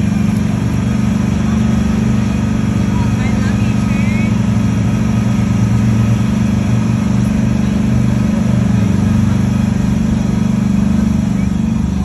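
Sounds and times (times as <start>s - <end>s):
road train engine droning: 0.0s - 12.0s.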